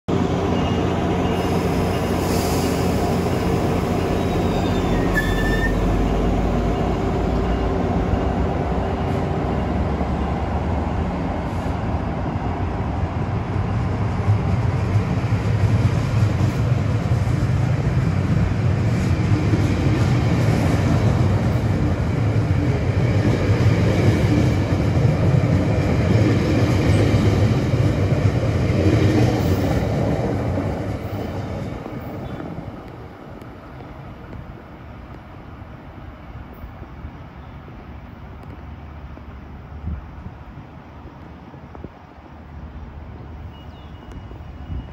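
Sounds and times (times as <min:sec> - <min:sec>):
train coaches rumbling on track: 0:00.1 - 0:44.9.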